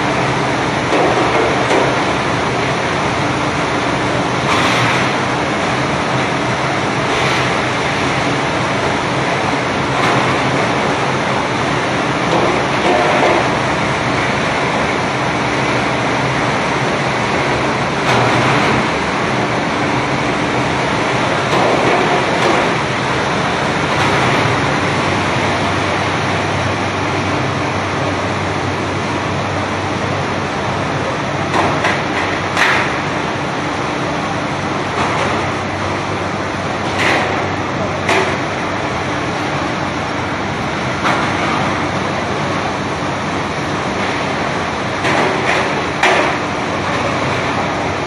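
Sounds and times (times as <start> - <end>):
pump and conveyor hum: 0.0 - 48.0.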